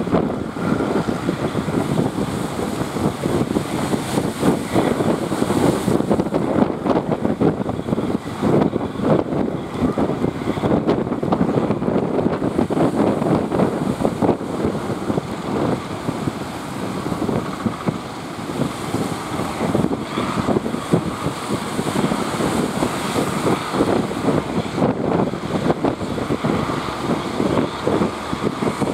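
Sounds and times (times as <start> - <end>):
rushing water and waves: 0.0 - 28.9
wind buffeting microphone: 0.0 - 28.9.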